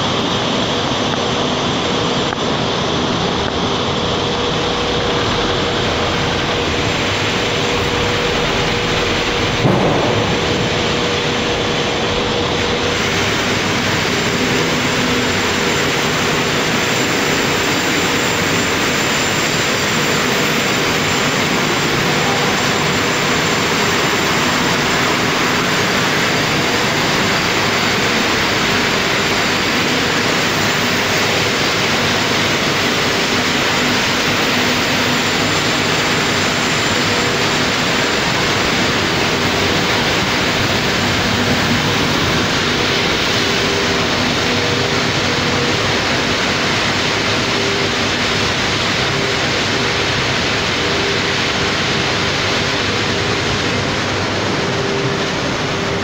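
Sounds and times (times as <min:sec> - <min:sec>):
blower fans and motors running: 0:00.0 - 0:56.0.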